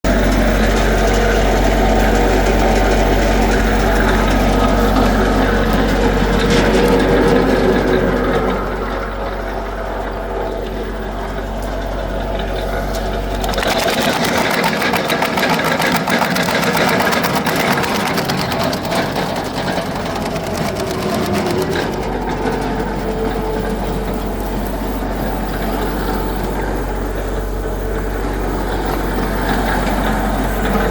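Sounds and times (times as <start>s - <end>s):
deep machine hum: 0.0s - 30.9s
wood chipper drone: 0.0s - 30.9s
fast rattling clatter: 0.1s - 30.9s.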